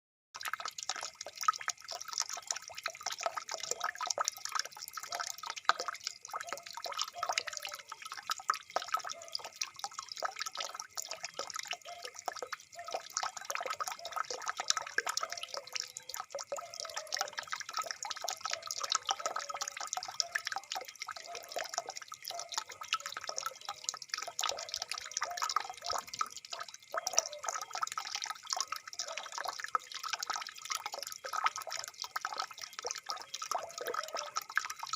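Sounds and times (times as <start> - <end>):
water trickling and gurgling: 0.4 - 34.9.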